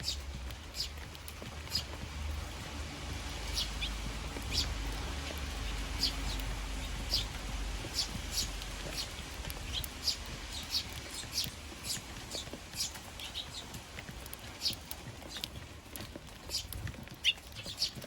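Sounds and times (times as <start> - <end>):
sparrows chirping: 0.0 - 18.0.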